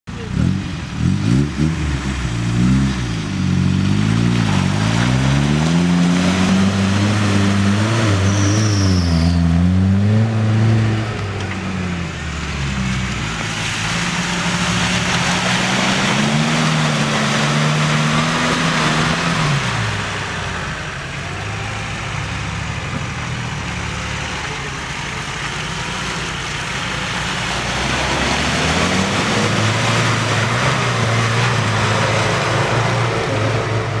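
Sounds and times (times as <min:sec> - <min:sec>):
off-road engines revving: 0:00.1 - 0:34.0
mud and water spraying: 0:00.2 - 0:10.5, 0:12.2 - 0:34.0.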